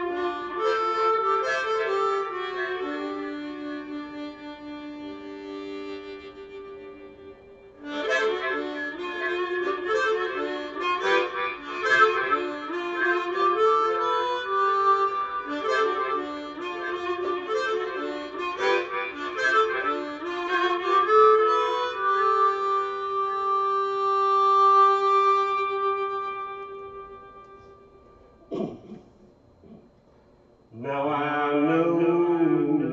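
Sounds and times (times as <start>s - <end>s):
blues harmonica playing: 0.0s - 28.2s.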